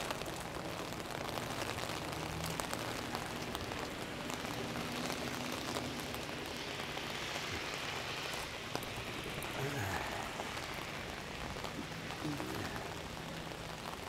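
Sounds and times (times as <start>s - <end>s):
heavy rain on an umbrella: 0.0s - 14.0s.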